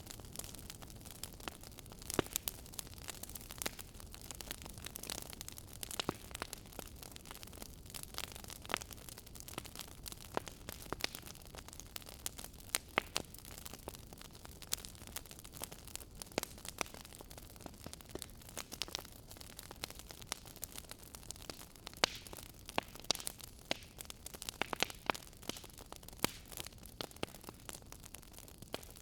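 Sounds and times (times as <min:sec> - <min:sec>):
soft rumble of burning fire: 0:00.0 - 0:29.0
wood fire crackling: 0:00.0 - 0:29.0.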